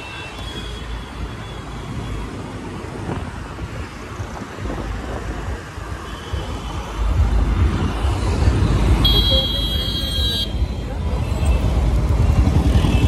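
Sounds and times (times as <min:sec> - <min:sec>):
passing traffic: 0:00.0 - 0:13.0.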